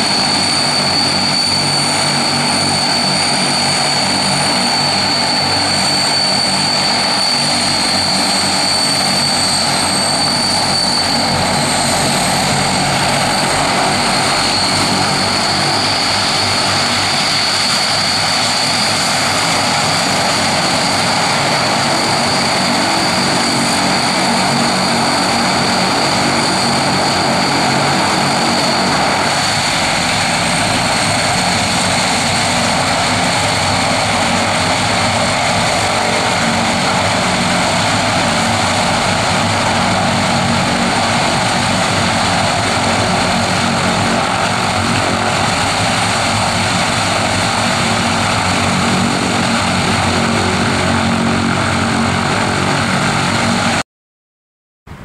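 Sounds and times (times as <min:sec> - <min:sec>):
propeller aircraft engines: 0:00.0 - 0:53.8.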